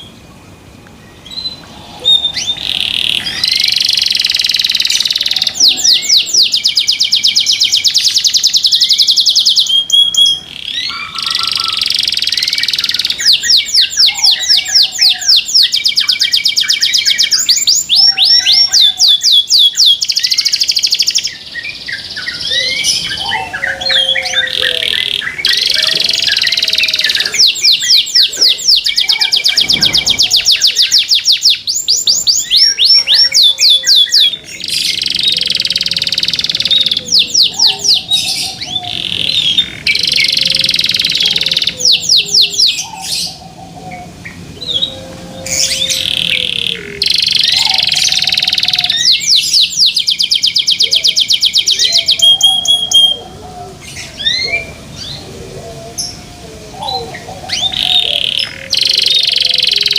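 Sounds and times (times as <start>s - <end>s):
canary singing trills: 1.0s - 59.9s.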